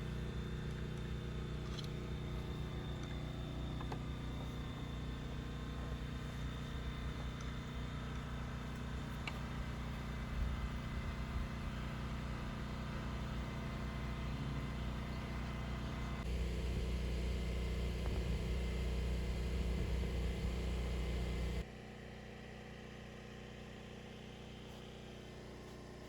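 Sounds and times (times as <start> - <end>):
car engine rumble: 0.0 - 21.6.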